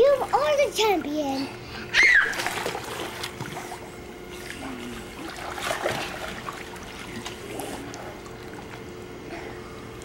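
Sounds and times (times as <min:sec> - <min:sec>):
faint steady hum: 0:00.0 - 0:10.0
pool water sloshing and splashing: 0:02.0 - 0:10.0.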